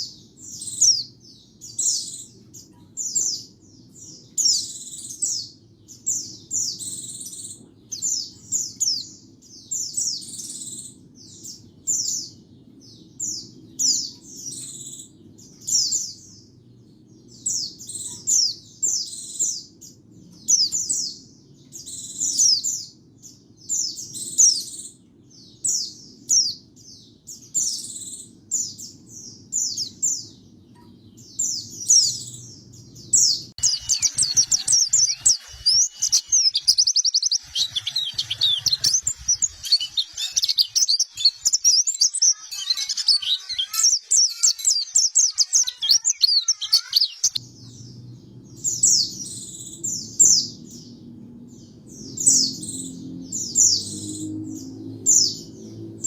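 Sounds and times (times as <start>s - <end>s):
bird chirping and twittering: 0.0s - 56.0s.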